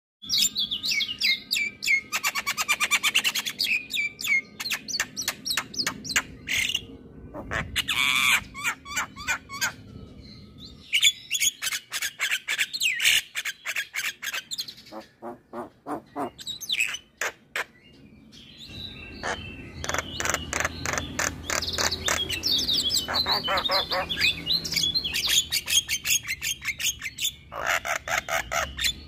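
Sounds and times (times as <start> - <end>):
bird squawk: 1.9 - 9.8, 11.0 - 17.8, 19.1 - 29.0.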